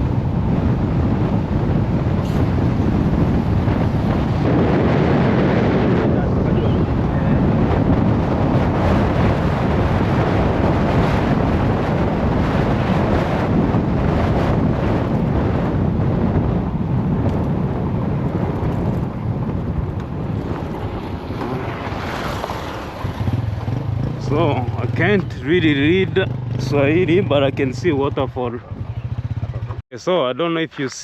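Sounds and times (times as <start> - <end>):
wind buffeting microphone: 0.0 - 29.8.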